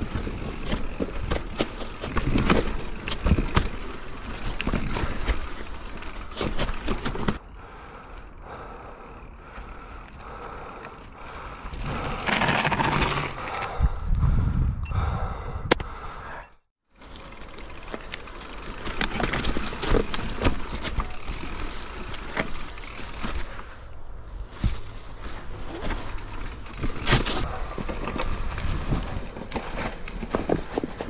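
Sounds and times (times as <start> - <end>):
bike knocking and clicking: 0.0 - 13.4, 17.0 - 23.7, 24.6 - 31.0
bike tyres over stones: 0.0 - 13.8, 17.0 - 31.0.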